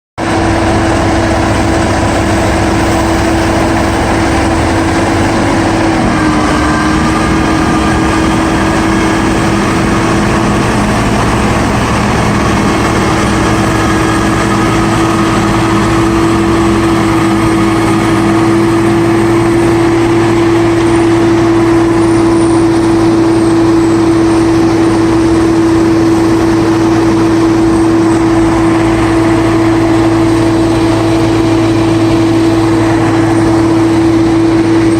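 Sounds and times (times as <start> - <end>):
diesel engine droning: 0.2 - 34.9.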